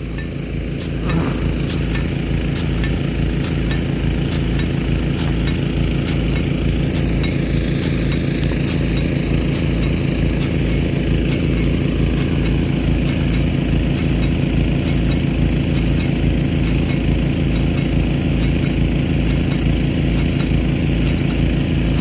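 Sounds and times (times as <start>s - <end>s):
engine running steadily: 0.0s - 22.0s
sprinkler water jet hissing: 0.0s - 22.0s.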